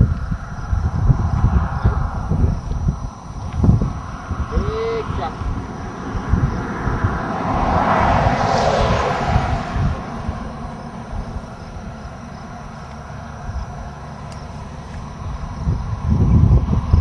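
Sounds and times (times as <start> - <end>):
vehicle passing on highway: 0.0 - 17.0
wind rumble on microphone: 0.0 - 17.0.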